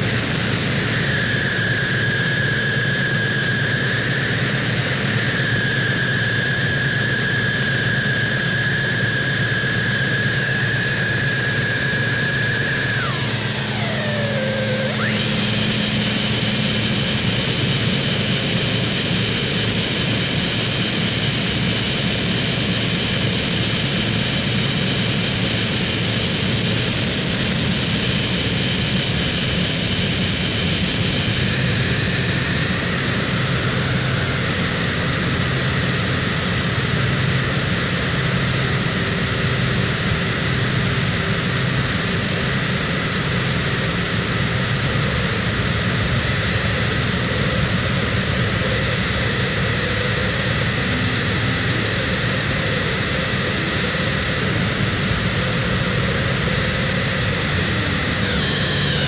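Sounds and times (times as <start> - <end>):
dense distorted noise: 0.0 - 59.0
high whine: 0.0 - 59.0.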